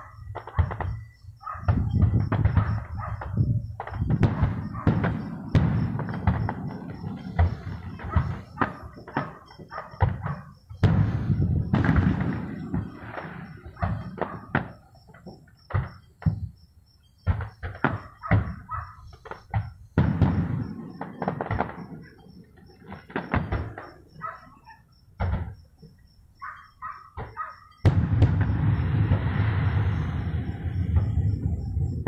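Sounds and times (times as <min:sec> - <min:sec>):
fireworks crackling: 0:00.0 - 0:16.5, 0:17.3 - 0:24.4, 0:27.8 - 0:32.0
fireworks booming: 0:00.0 - 0:16.6, 0:17.2 - 0:26.1, 0:27.1 - 0:32.0.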